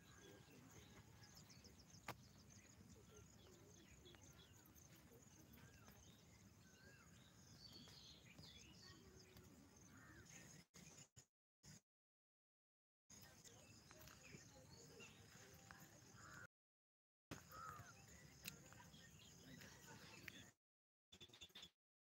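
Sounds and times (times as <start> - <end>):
faint bird chirps: 0.0 - 11.1, 13.1 - 16.5, 17.3 - 21.7.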